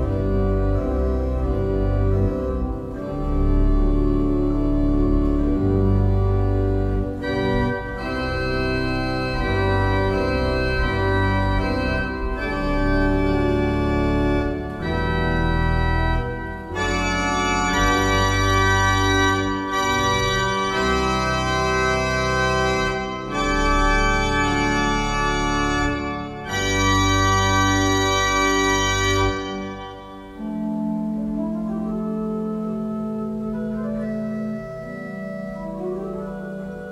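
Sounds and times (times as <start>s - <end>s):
pipe organ chords: 0.0s - 36.9s.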